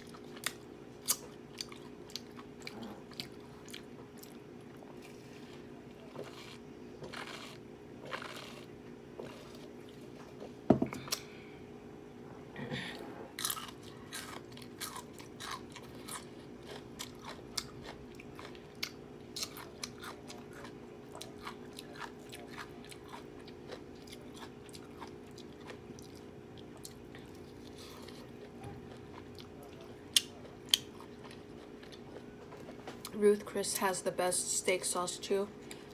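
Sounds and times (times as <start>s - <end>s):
person chewing crunchy food: 0.0s - 11.3s, 13.3s - 33.2s.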